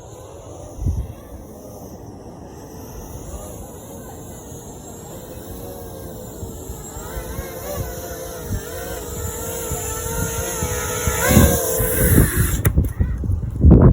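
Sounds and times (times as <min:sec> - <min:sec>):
drone electric motors whining: 0:00.0 - 0:13.9
low wind rumble: 0:00.0 - 0:13.9.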